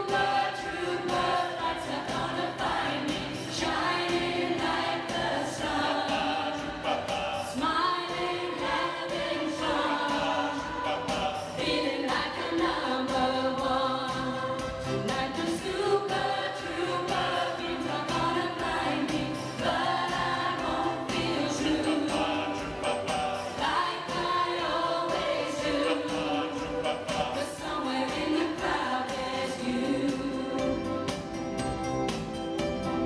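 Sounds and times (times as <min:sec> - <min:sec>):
choir singing a pop song: 0:00.0 - 0:33.0
instrumental backing with beat: 0:00.0 - 0:33.0.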